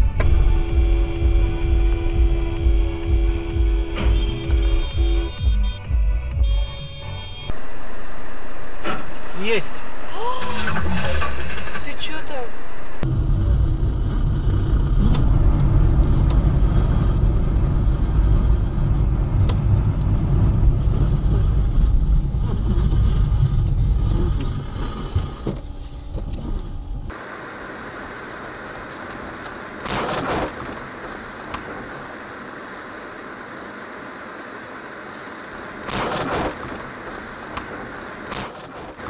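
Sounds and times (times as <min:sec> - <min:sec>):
vehicle road noise rumble: 0:00.0 - 0:39.0.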